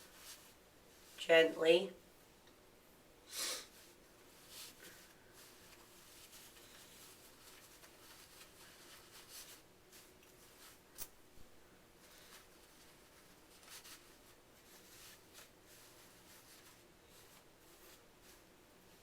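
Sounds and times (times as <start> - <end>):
fabric rustling: 0.0 - 1.2, 3.7 - 19.0.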